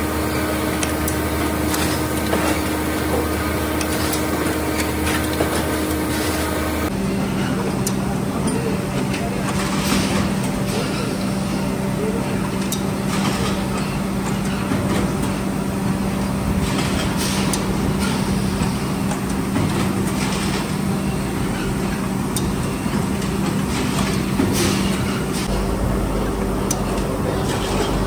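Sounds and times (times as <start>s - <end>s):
factory machinery humming: 0.0s - 28.0s.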